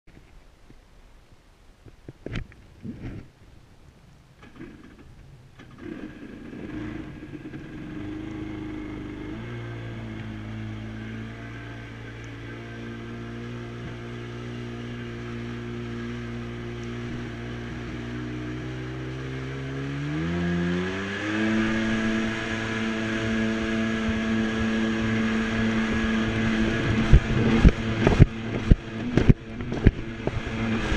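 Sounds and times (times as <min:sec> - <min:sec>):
jet ski engine: 0:04.4 - 0:30.9.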